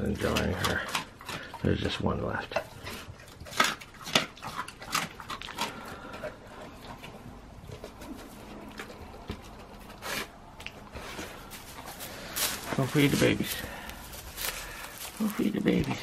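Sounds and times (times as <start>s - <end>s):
dog sniffing: 0.0s - 15.4s
dog crunching and chewing: 0.0s - 16.0s.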